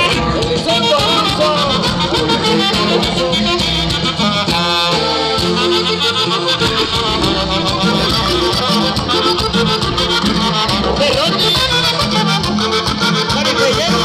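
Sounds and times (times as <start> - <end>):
band music with wavering melody: 0.0 - 14.0
steady bass line: 0.0 - 14.0.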